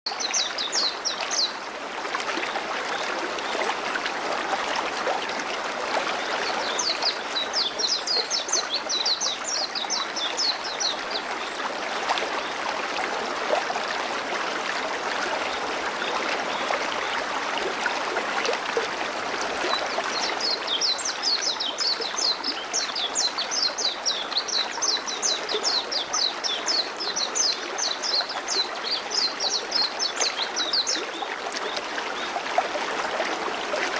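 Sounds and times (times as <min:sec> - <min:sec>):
river water running over stones: 0:00.1 - 0:33.9.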